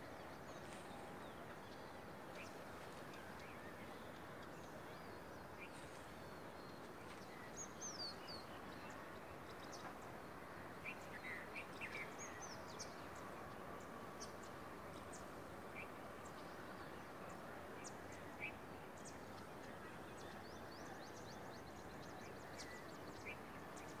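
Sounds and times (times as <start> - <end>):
steady outdoor background noise: 0.0 - 24.0.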